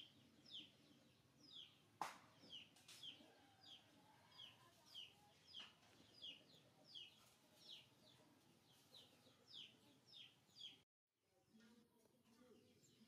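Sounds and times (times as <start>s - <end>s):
bird chirping: 0.0s - 10.8s.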